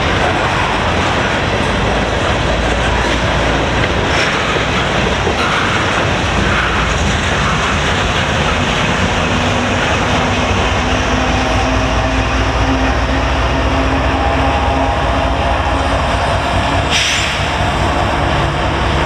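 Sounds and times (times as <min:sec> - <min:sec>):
diesel locomotive engine hum: 0:00.0 - 0:19.0
wheels rumbling on track: 0:00.0 - 0:19.0.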